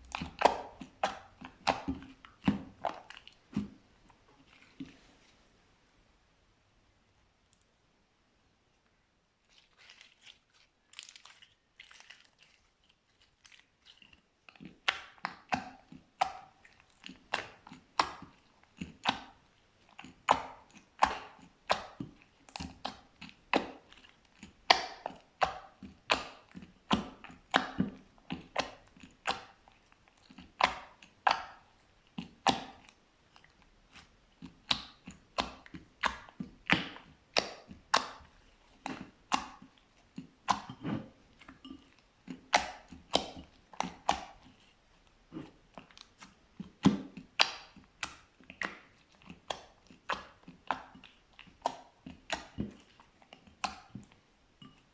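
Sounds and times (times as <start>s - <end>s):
slime squishing and popping: 0.0s - 3.8s, 9.5s - 44.7s, 45.3s - 54.8s.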